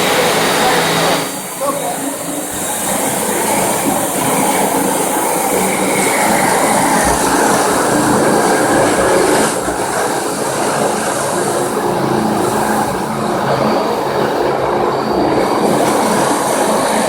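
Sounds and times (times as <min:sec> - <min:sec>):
floor grinder scouring concrete: 0:00.0 - 0:17.0.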